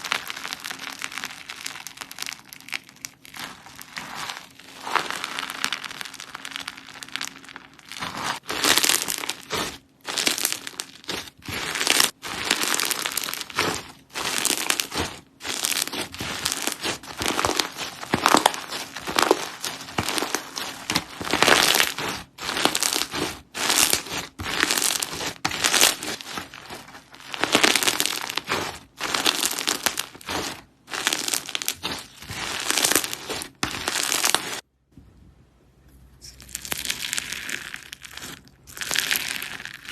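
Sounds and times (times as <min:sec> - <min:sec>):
hands squeezing crackling slime: 0:00.0 - 0:34.6, 0:36.4 - 0:39.9.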